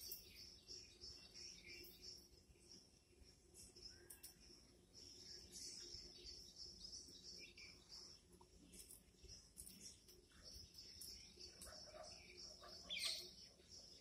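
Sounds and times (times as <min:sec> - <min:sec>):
bird chirps: 0:00.0 - 0:02.9, 0:03.6 - 0:14.0.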